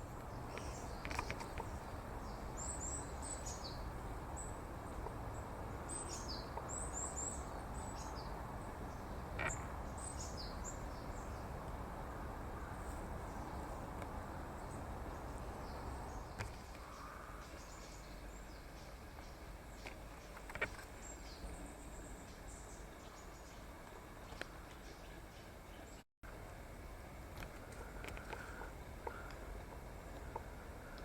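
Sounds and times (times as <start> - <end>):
small birds chirping: 0.0 - 26.0, 27.6 - 31.0
low background rumble: 0.0 - 31.0.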